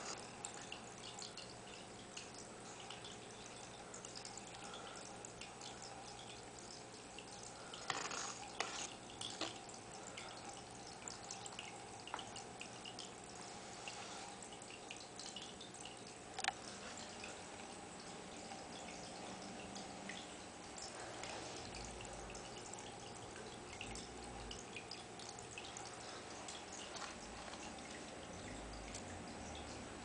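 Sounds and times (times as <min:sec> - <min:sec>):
water trickling into fish tank: 0:00.0 - 0:30.0.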